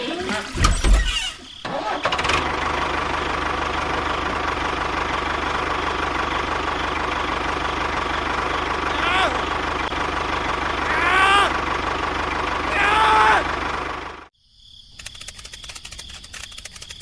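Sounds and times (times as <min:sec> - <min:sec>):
engine starting and idling: 0:00.3 - 0:14.3.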